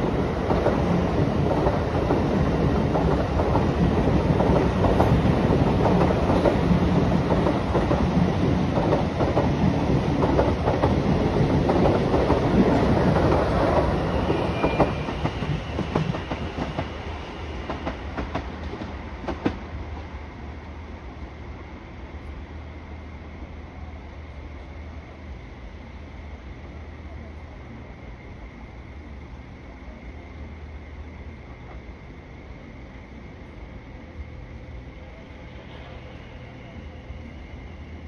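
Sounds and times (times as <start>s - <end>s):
passenger train running past: 0.0s - 38.0s.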